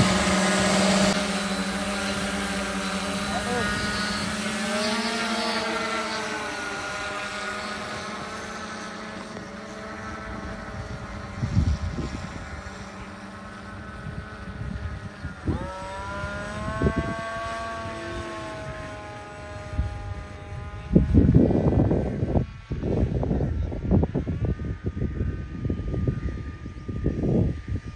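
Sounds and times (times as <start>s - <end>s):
drone propellers humming: 0.0s - 27.9s
high propeller whine: 0.0s - 27.9s.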